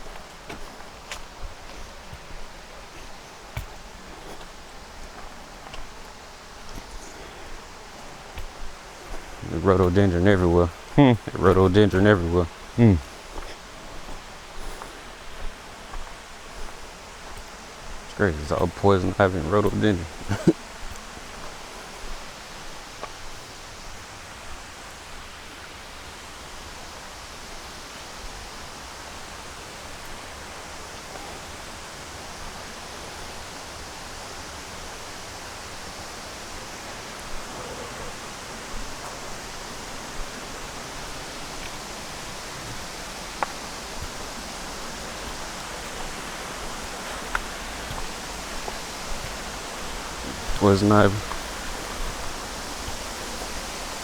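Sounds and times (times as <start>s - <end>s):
creek and waterfalls rushing: 0.0s - 54.0s.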